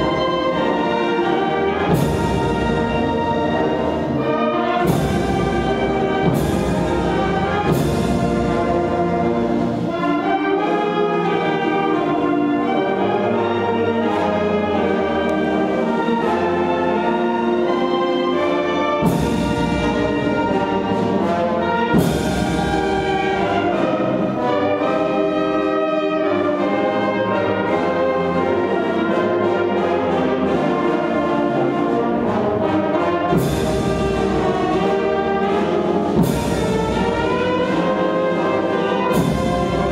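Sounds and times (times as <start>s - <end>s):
brass band playing anthem: 0.0s - 39.9s.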